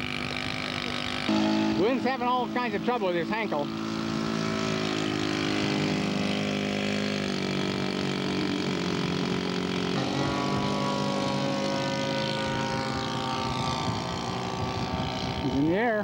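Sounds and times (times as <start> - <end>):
model airplane engine buzzing: 0.0 - 16.0.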